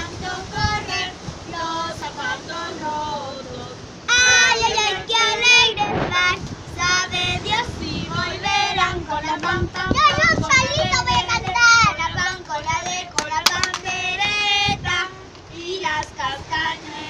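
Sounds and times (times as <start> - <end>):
children singing: 0.0 - 17.0.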